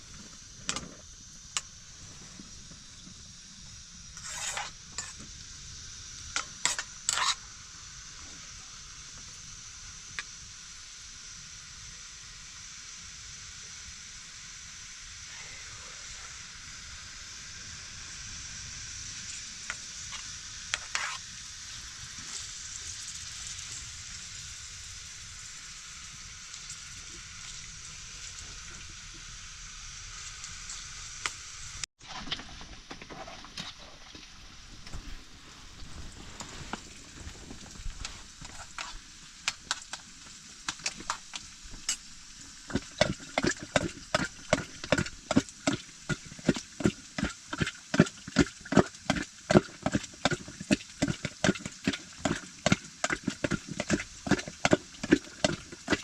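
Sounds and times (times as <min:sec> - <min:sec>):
sizzling hiss: 0:00.0 - 0:31.9, 0:33.5 - 0:56.0.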